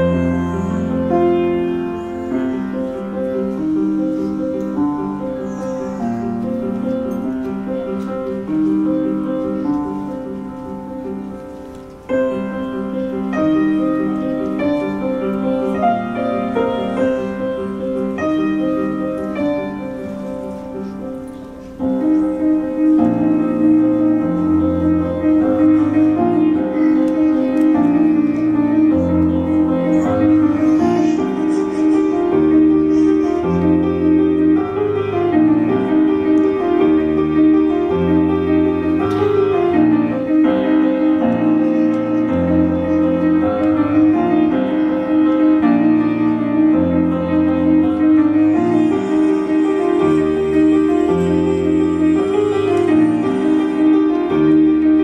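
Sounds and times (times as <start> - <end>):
solo grand piano: 0.0 - 55.0.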